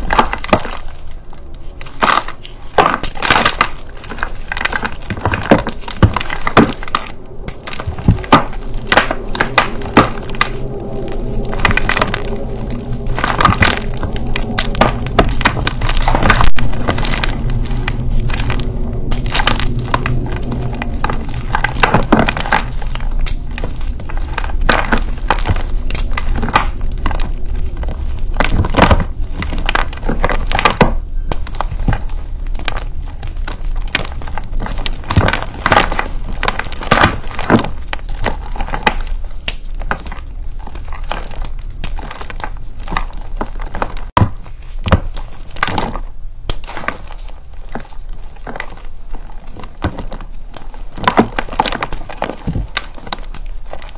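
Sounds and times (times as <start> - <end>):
chalk blocks crunching and crumbling: 0.0 - 53.9.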